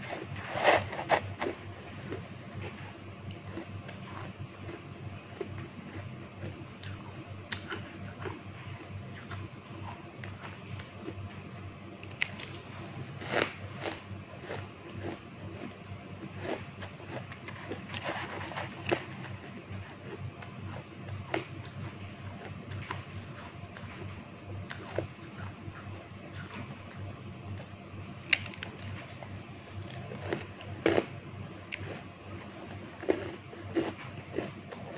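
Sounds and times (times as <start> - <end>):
chewing crunching ice: 0.0 - 34.9.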